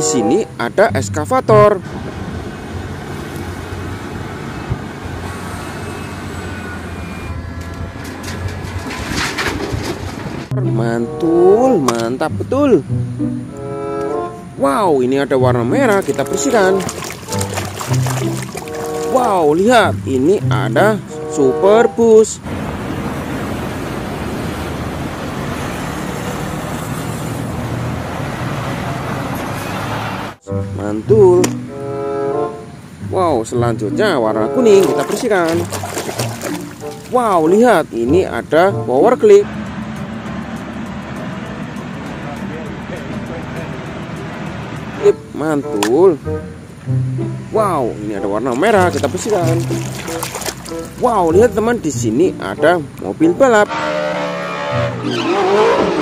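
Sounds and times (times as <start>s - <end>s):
excavator diesel engine droning: 0.0s - 14.6s, 15.4s - 35.7s, 38.4s - 49.8s, 53.7s - 56.0s
road traffic: 0.0s - 56.0s.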